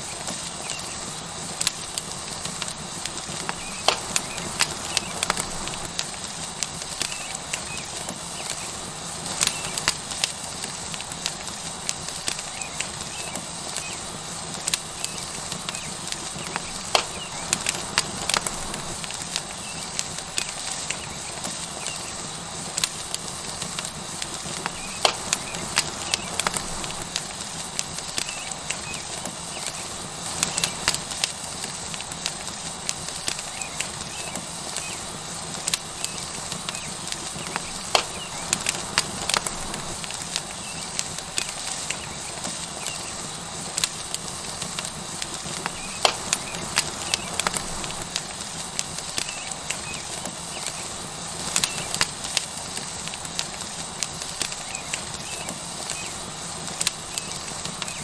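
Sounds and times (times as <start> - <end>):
fire crackling and popping: 0.0 - 58.0
steak sizzling: 0.0 - 58.0.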